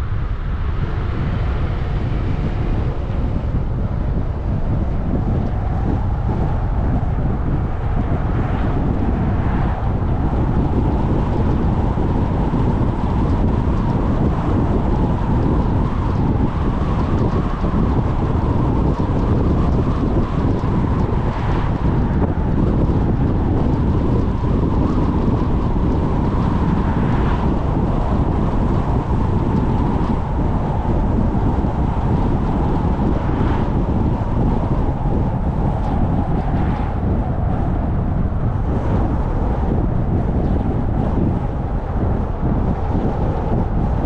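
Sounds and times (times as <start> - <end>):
car road noise at speed: 0.0 - 44.0
wind buffeting microphone: 0.0 - 44.0.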